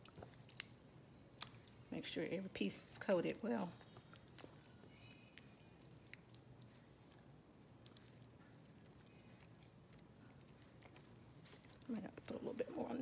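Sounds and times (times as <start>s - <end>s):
sticky squishes of hands on chicken: 2.5s - 13.0s.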